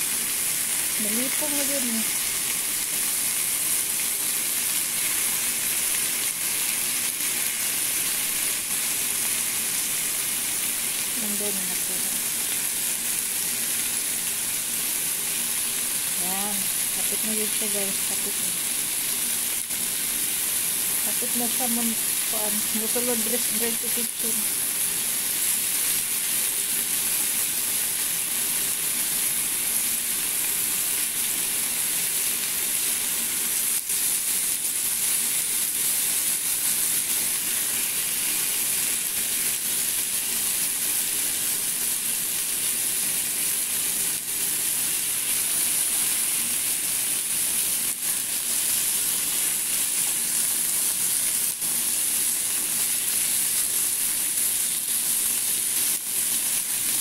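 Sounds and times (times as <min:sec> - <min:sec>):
chicken sizzling in a frying pan: 0:00.0 - 0:57.0.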